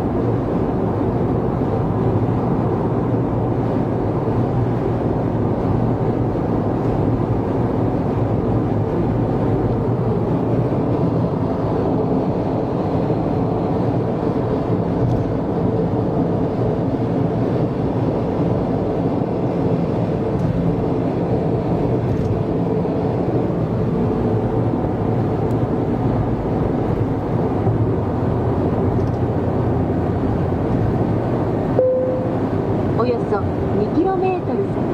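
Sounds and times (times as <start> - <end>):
tyre and engine drone in car: 0.0 - 34.9.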